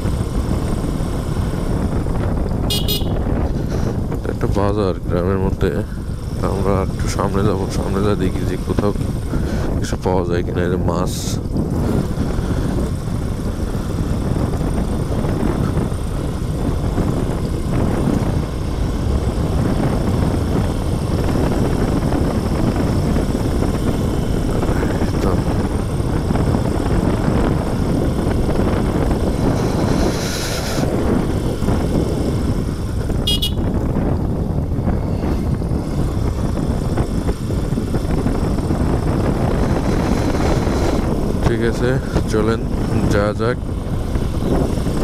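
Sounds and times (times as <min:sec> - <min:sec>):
motorcycle engine running: 0:00.0 - 0:45.0
wind rushing on microphone: 0:00.0 - 0:45.0.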